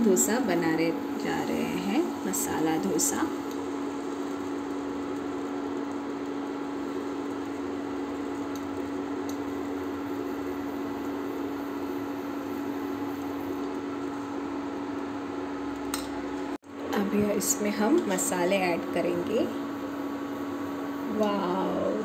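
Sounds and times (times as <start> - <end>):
induction cooktop humming: 0.0 - 22.0.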